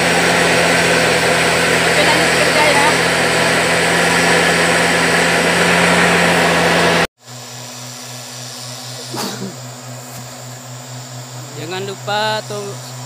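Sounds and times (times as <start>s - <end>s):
low throbbing engine hum: 0.0s - 13.0s
mist blower engine running: 0.0s - 13.0s.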